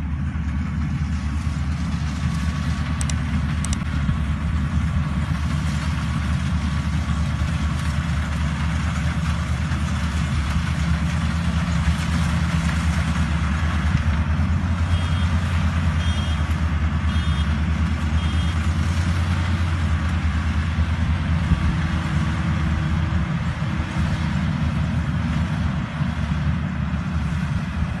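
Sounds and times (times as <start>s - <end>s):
rice thresher engine running: 0.0s - 28.0s.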